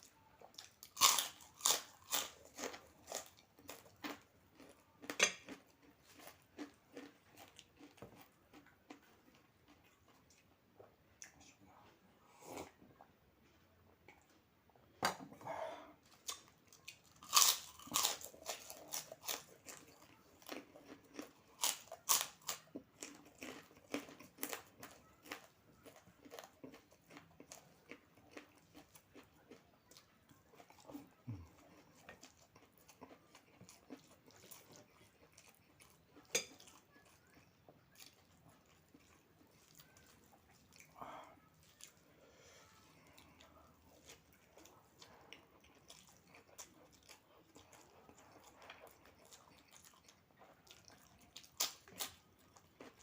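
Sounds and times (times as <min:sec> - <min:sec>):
person chewing crunchy food: 0:00.0 - 0:11.4, 0:15.4 - 0:42.0, 0:42.9 - 0:53.0.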